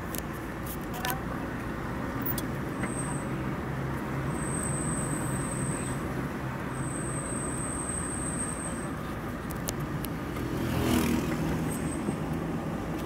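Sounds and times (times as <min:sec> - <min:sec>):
road and wind noise: 0:00.0 - 0:13.0
vehicle engine hum: 0:00.0 - 0:13.0.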